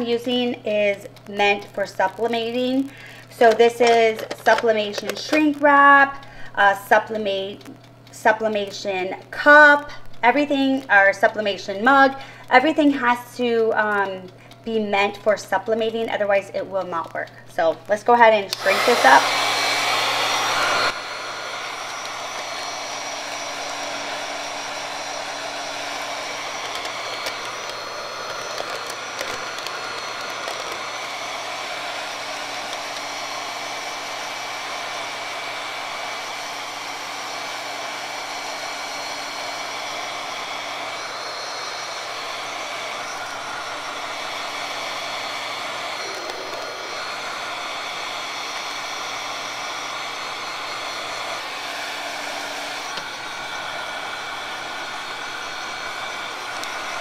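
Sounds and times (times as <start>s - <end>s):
heat gun blowing: 0.0s - 8.1s, 17.0s - 57.0s.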